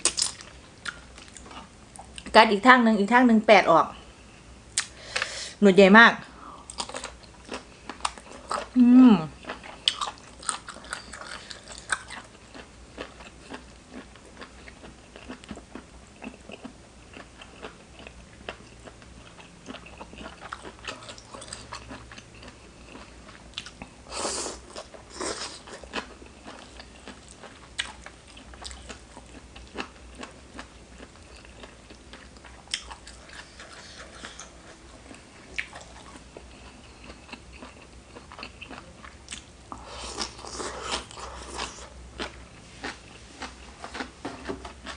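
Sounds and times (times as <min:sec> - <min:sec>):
person chewing food: 0:00.0 - 0:02.3, 0:06.6 - 0:44.9.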